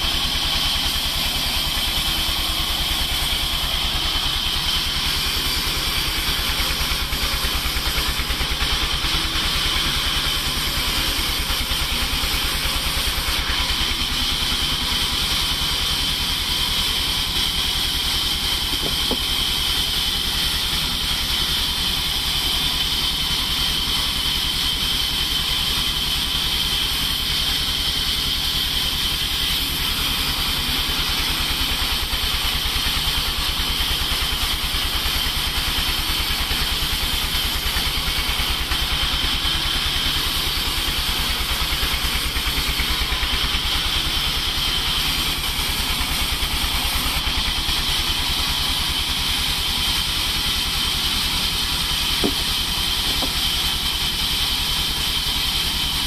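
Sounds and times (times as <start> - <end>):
band sawmill slicing log: 0.0 - 56.0.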